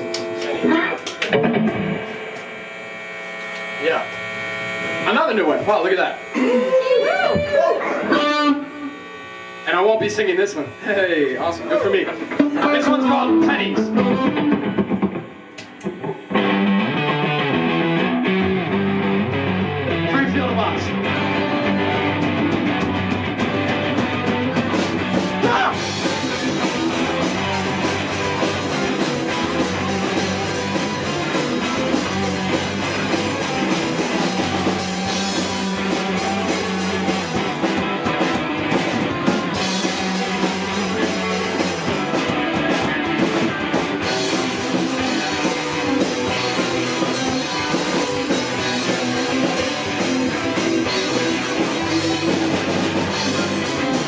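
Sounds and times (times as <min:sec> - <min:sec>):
rock band playing live: 0:00.0 - 0:03.0, 0:04.9 - 0:54.0.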